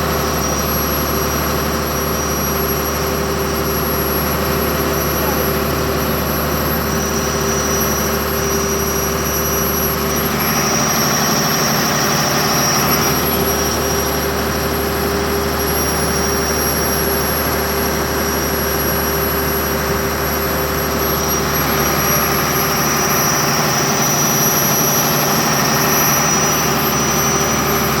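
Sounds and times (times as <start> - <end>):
diesel generator running: 0.0 - 28.0
thin high whine: 0.0 - 28.0.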